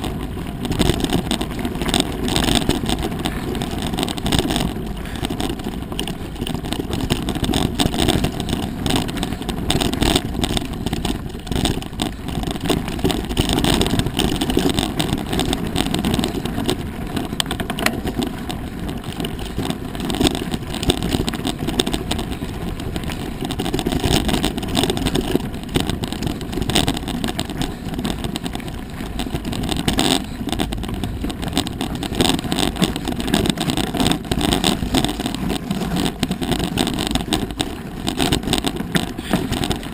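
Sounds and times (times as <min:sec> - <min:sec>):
bike and rocks rattling: 0:00.0 - 0:39.9
bike tyres rumbling on dirt: 0:00.0 - 0:39.9
wind buffeting microphone: 0:00.0 - 0:39.9.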